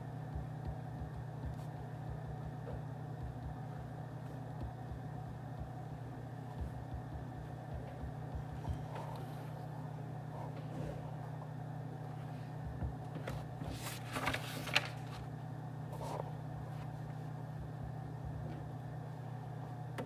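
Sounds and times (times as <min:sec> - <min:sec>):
low office hum: 0:00.0 - 0:20.0.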